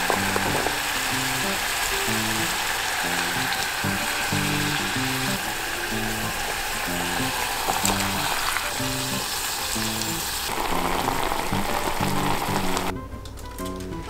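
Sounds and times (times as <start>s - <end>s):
broth boiling in a pot: 0.0s - 12.9s
background music low notes: 0.0s - 14.0s.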